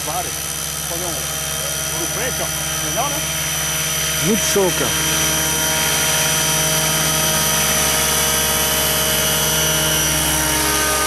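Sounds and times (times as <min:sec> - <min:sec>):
model helicopter motor whine: 0:00.0 - 0:11.0.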